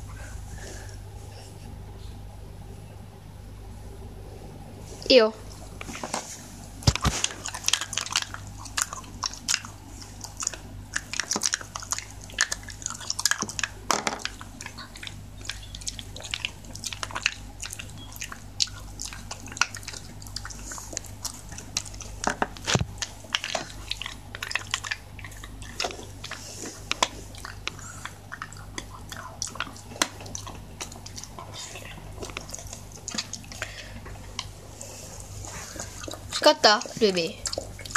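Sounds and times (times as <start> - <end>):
low steady hum: 0.0 - 37.9
dog chewing a bone: 6.8 - 37.9.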